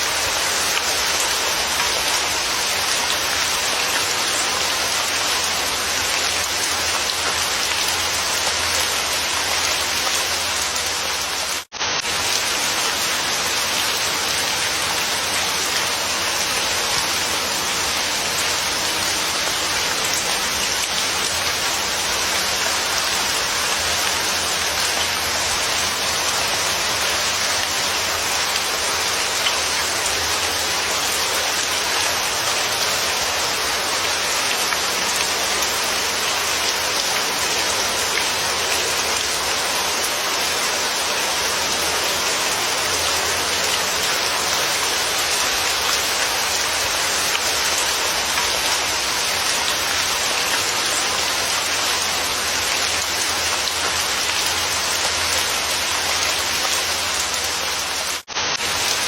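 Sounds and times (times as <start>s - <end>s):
dense rain pattering: 0.0s - 59.0s.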